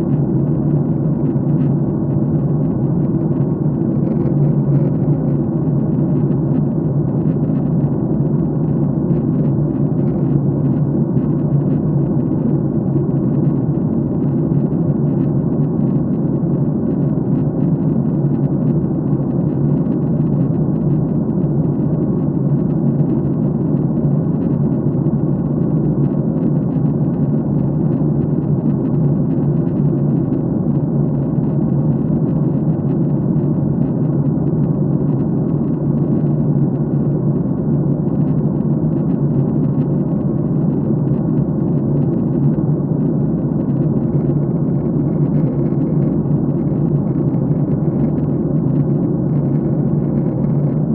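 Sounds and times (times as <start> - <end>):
airliner cabin engine drone: 0.0 - 50.9.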